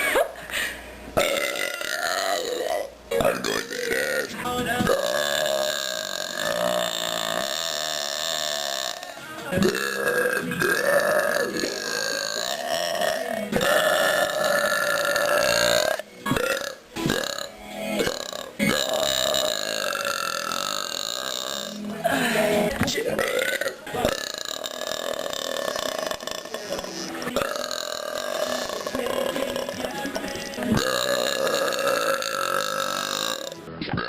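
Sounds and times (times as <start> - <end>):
woman belching: 1.2 - 34.0.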